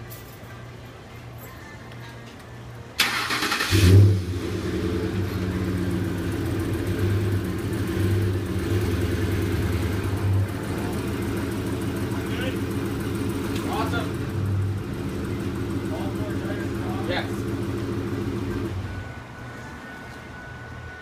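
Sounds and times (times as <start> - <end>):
truck engine starting and idling: 3.0 - 21.0.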